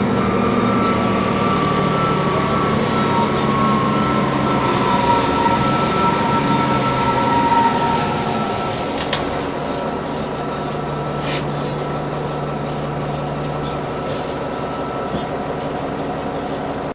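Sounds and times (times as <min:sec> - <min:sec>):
bus drivetrain drone: 0:00.0 - 0:16.9.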